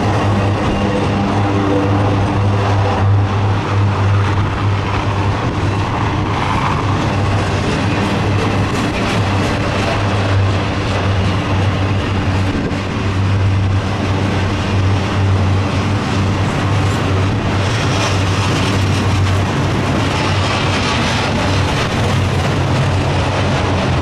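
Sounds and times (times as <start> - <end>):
freight train cars rolling: 0.0 - 24.0.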